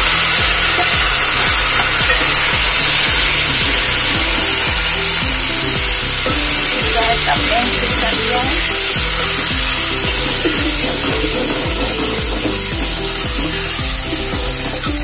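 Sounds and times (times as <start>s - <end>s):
chutney sizzling in hot oil: 0.0s - 15.0s
metal spoon stirring in a pot: 0.1s - 15.0s.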